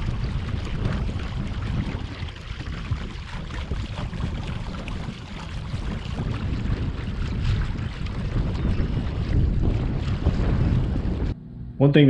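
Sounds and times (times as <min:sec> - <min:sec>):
wind noise on microphone: 0:00.0 - 0:11.9.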